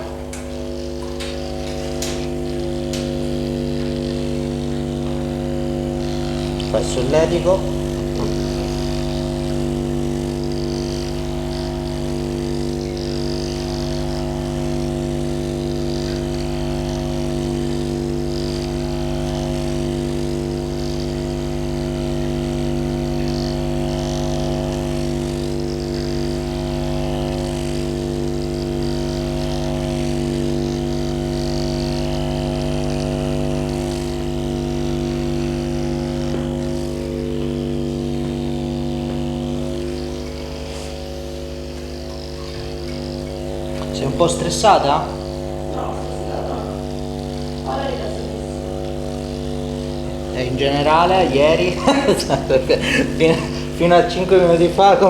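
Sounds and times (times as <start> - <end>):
vibration massager buzzing: 0.0 - 55.0.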